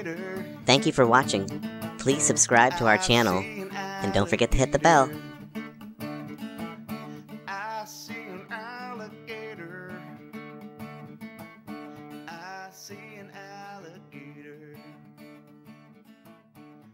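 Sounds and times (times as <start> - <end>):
acoustic guitar music: 0.0 - 16.9.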